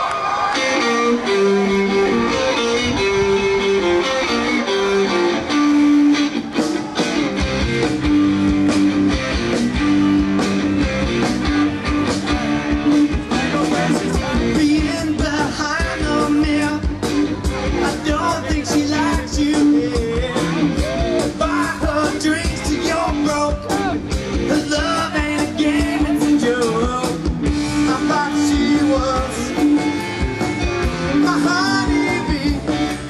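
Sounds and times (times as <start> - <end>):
bass: 0.0 - 33.0
drums: 0.0 - 33.0
electric guitar riff: 0.1 - 33.0.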